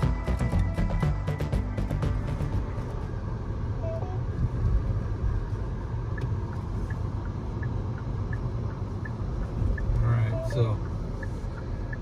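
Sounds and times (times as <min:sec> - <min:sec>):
road and engine rumble: 0:00.0 - 0:12.0
turn signal ticking: 0:00.0 - 0:12.0.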